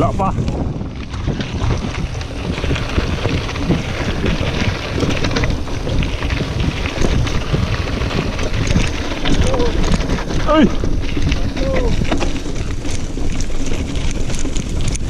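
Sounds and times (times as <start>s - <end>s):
bike knocking and rattling: 0.0s - 15.0s
tyres on dirt and rocks: 0.0s - 15.0s
wind buffeting microphone: 0.0s - 15.0s.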